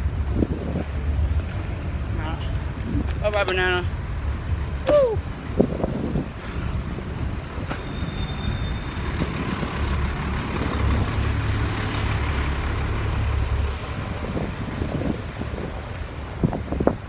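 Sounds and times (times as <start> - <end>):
wind buffeting microphone: 0.0 - 12.3, 12.9 - 17.0
wheels rumbling on pavement: 0.0 - 17.0.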